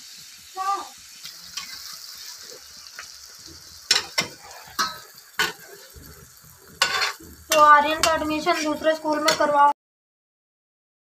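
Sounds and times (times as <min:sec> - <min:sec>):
vegetables sizzling in oil: 0:00.0 - 0:09.8.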